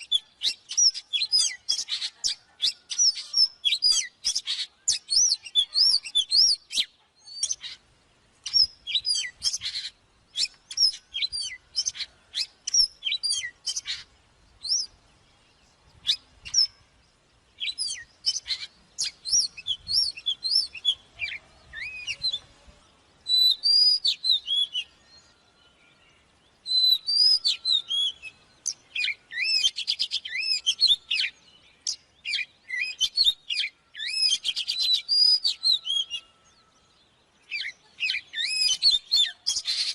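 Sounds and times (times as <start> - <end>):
bird singing whistled notes: 0.0 - 7.8, 8.4 - 39.9.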